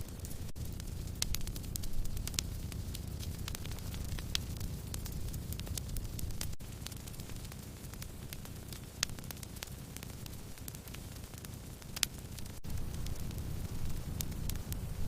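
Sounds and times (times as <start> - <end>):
campfire flames rumbling: 0.0 - 15.0
fire crackling: 0.0 - 15.0
sharp pops of fire: 0.0 - 15.0.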